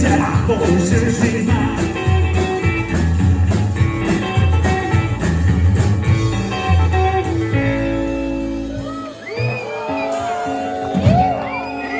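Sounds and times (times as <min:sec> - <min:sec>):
rockabilly band playing: 0:00.0 - 0:11.9.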